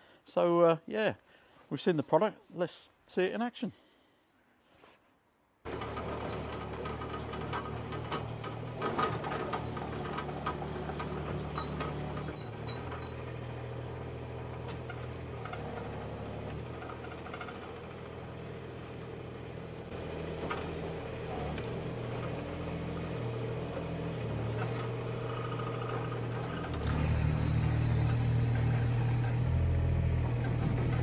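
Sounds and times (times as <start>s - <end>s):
excavator diesel engine running: 5.7s - 31.0s.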